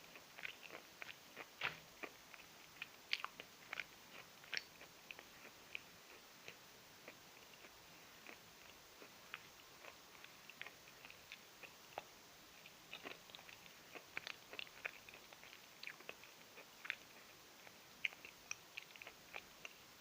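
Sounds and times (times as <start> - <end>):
person chewing chalk: 0.1 - 19.8.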